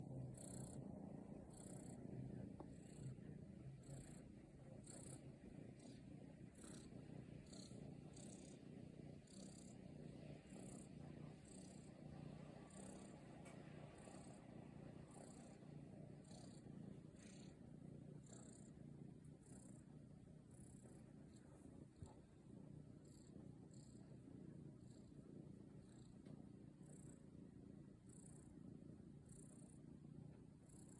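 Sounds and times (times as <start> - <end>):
cat purring: 0.0 - 30.9
soft high hissy sounds: 0.0 - 30.9.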